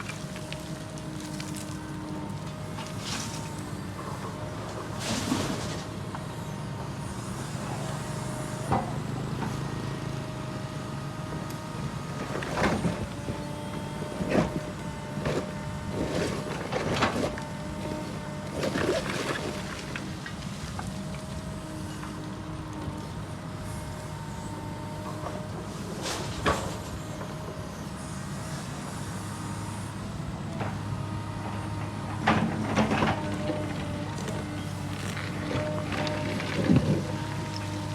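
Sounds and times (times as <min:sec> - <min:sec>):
excavator engine whining: 0:00.0 - 0:37.9.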